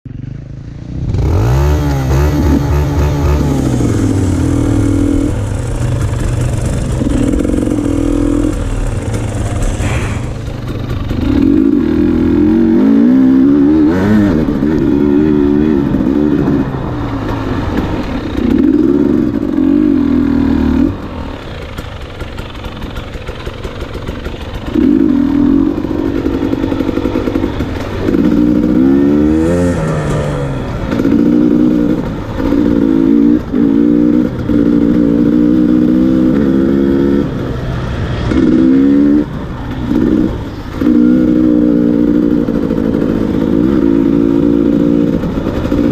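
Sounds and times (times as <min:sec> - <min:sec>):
dirt bike engines revving: 0:00.8 - 0:45.9.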